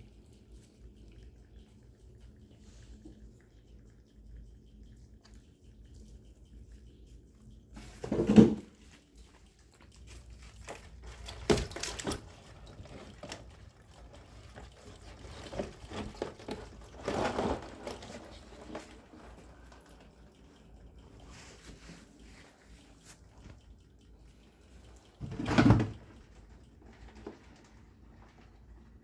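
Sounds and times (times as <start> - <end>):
faint liquid sounds: 0.0 - 29.0.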